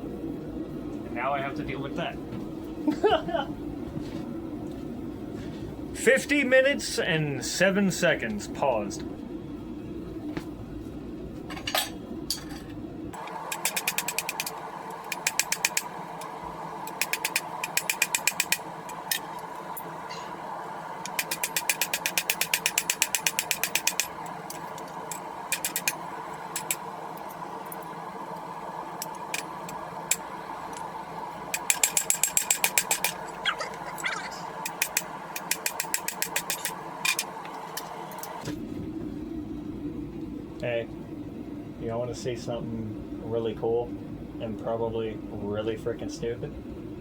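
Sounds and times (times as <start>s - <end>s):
forge hum: 0.0s - 47.0s.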